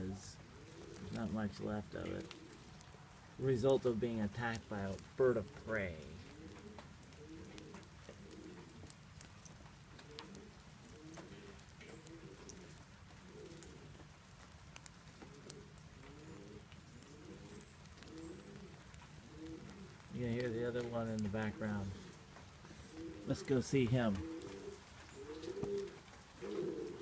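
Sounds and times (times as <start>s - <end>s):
pigeon cooing: 0.0s - 27.0s.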